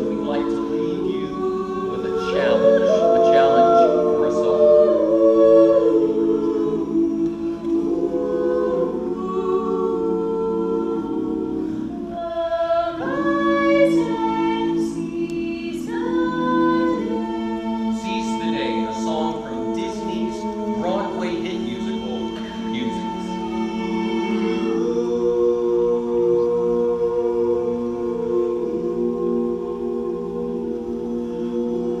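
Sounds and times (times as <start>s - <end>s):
a cappella choir singing: 0.0s - 32.0s.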